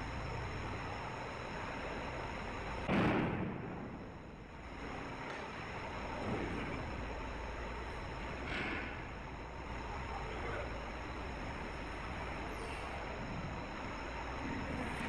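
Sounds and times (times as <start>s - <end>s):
steady machinery noise: 0.0s - 15.0s.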